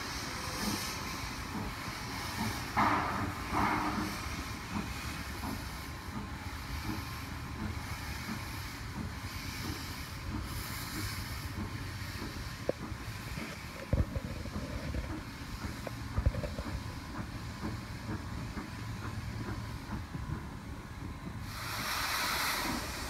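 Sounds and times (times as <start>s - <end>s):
steam locomotive blasts of steam: 0.0s - 23.0s.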